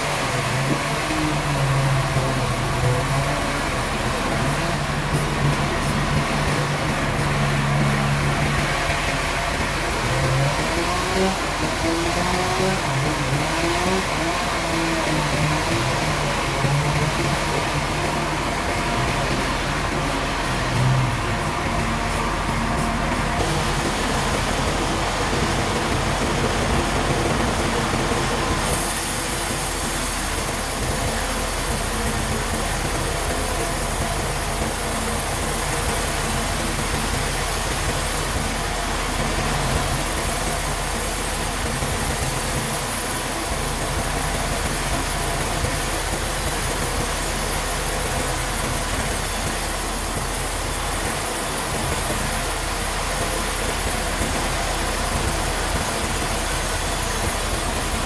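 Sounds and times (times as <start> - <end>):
sawmill machinery din: 0.0 - 58.0.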